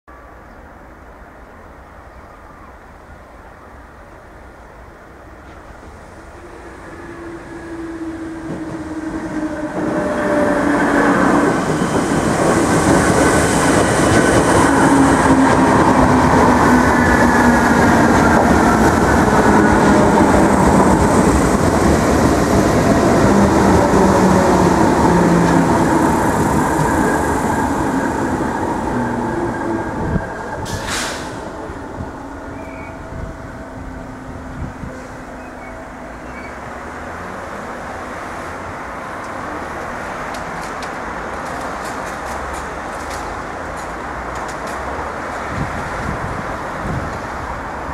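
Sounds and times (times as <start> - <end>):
electric train passing: 0.2 - 47.9.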